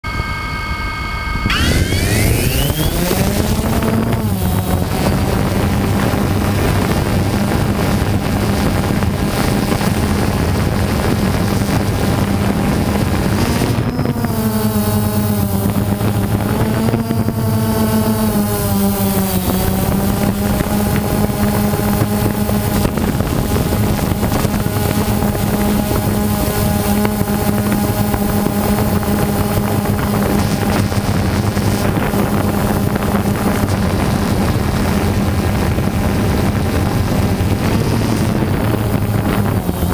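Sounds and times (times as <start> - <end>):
drone propellers whining: 0.0 - 39.9
wind on microphone: 0.1 - 39.9.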